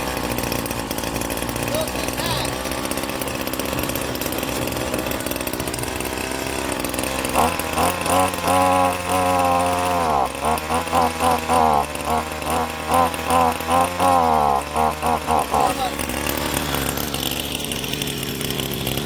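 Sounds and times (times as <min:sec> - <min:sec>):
string trimmer engine revving: 0:00.0 - 0:19.0.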